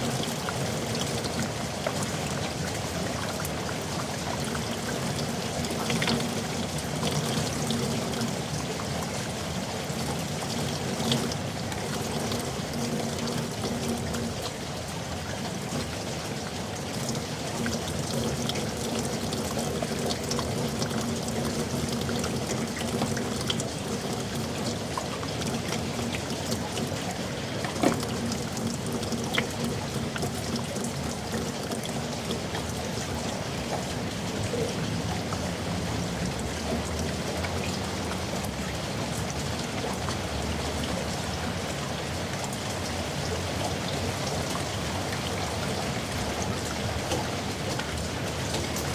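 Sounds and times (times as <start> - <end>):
heavy rain falling: 0.0 - 48.9
sharp water drips: 0.0 - 48.9.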